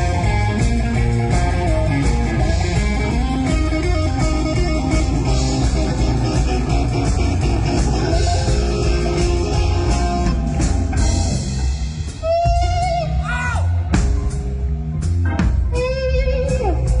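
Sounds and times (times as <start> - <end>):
rock music with guitar bass and drums: 0.0 - 17.0.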